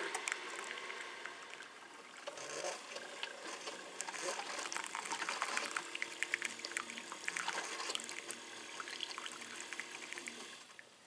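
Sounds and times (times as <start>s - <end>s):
coffee trickling into a mug: 0.0s - 10.8s.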